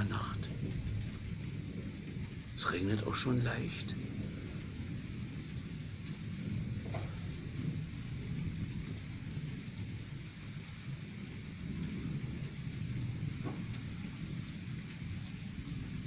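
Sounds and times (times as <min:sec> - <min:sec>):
distant thunder rumble: 0:00.0 - 0:16.0
light rain falling: 0:00.0 - 0:16.0.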